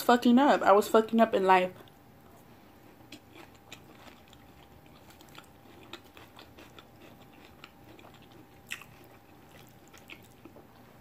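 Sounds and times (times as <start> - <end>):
person chewing salad: 1.8 - 11.0.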